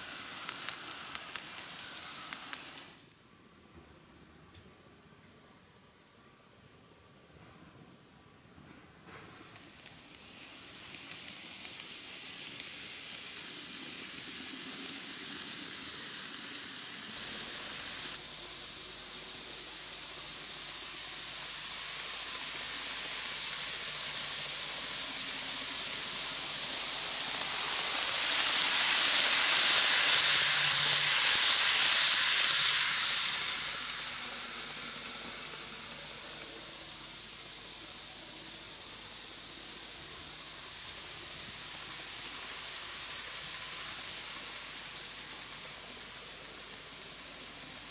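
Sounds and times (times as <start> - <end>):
model train whirring on track: 0.0 - 3.3, 8.7 - 47.9.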